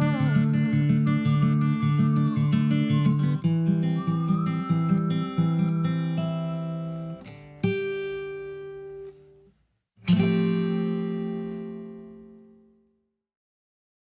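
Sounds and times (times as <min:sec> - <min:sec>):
acoustic guitar strumming chords: 0:00.0 - 0:12.7.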